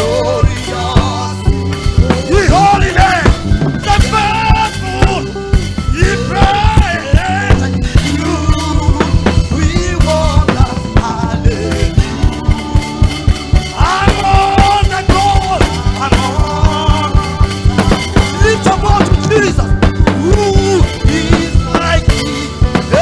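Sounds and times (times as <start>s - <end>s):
drum kit fast beat: 0.0s - 23.0s
worship band music: 0.0s - 23.0s.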